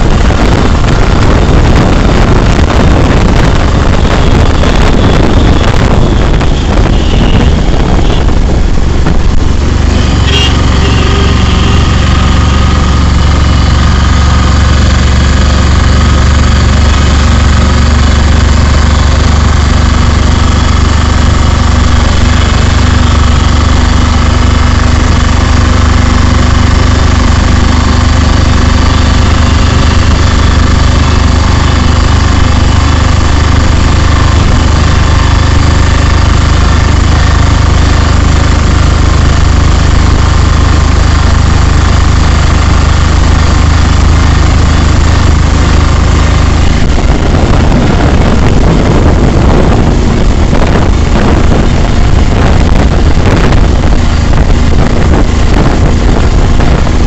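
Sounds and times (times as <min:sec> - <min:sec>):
road noise: 0:00.0 - 0:57.0
rushing wind: 0:00.0 - 0:57.0
vehicle engine droning: 0:00.0 - 0:57.0.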